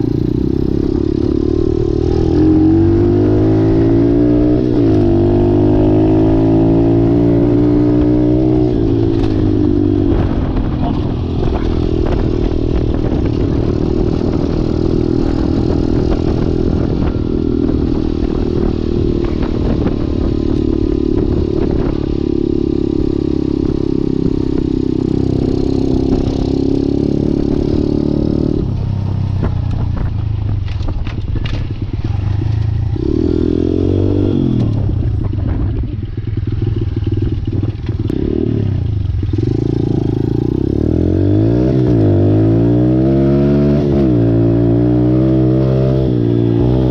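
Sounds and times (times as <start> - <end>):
pit bike engine revving: 0.0 - 28.9, 36.3 - 46.9.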